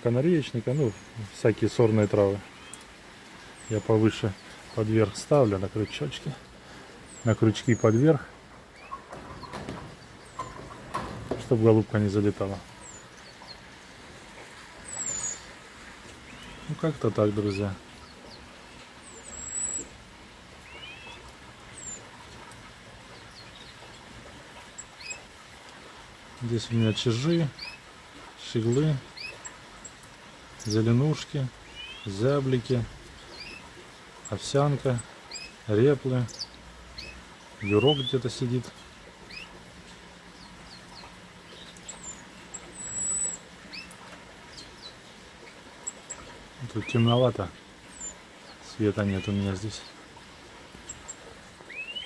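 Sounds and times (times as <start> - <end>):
finches chirping: 0.1 - 14.0, 14.6 - 20.0, 20.6 - 22.3, 23.1 - 25.3, 26.5 - 30.0, 30.6 - 50.1, 50.7 - 52.0.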